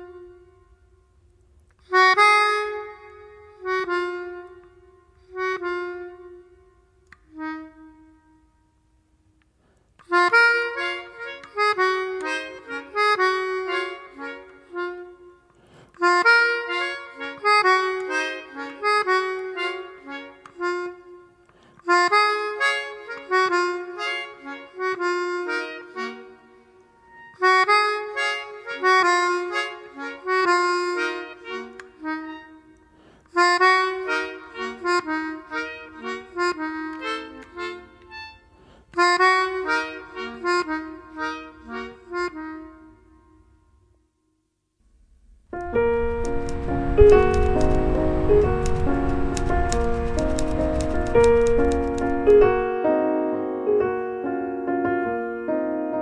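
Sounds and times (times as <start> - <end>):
accordion-like reed chords: 1.8 - 8.5, 10.0 - 43.2, 45.5 - 52.9.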